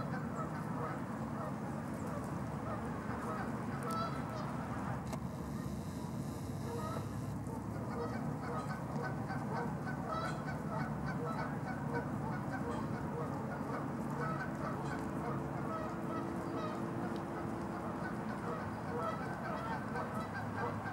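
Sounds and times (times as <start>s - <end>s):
geese honking: 0.0s - 4.6s, 6.6s - 20.9s.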